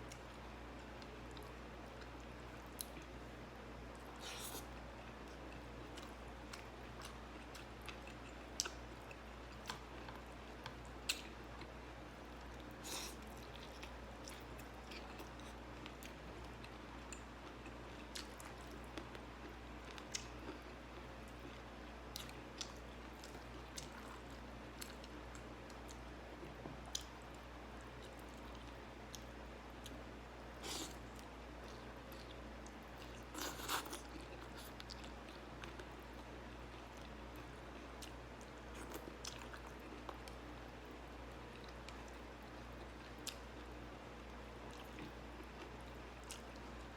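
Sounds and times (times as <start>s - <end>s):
chewing food with crunches: 0.0s - 46.9s
faint low hum: 0.0s - 46.9s.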